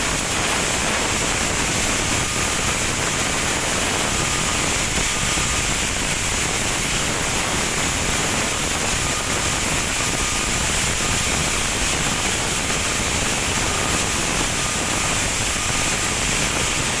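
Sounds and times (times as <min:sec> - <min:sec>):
sandblasting nozzle hissing: 0:00.0 - 0:17.0.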